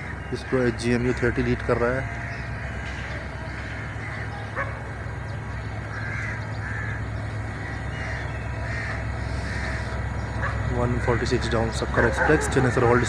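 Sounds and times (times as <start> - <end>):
bird calls: 0.0 - 13.0
passenger train rumbling: 0.0 - 13.0.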